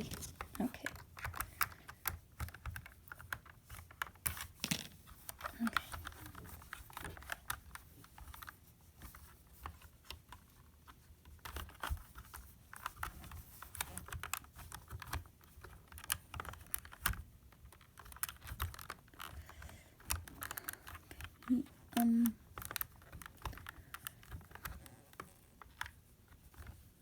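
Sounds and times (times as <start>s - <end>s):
plastic puzzle parts clicking: 0.0s - 8.5s, 11.3s - 26.8s.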